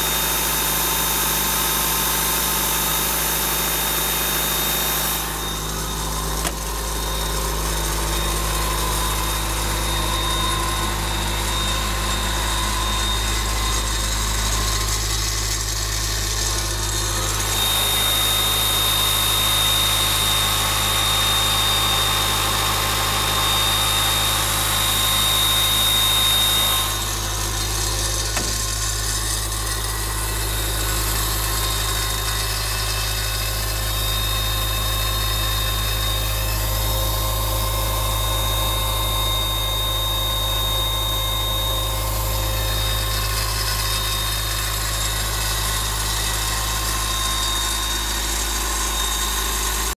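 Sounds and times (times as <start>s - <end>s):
diesel compressor idling: 0.0s - 49.9s
high steady whine: 0.0s - 49.9s.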